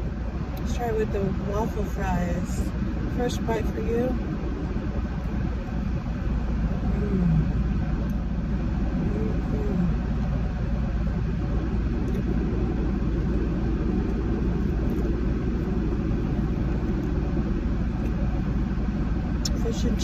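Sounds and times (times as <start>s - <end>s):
car air conditioning blowing: 0.0s - 20.0s
engine idling hum: 0.0s - 20.0s.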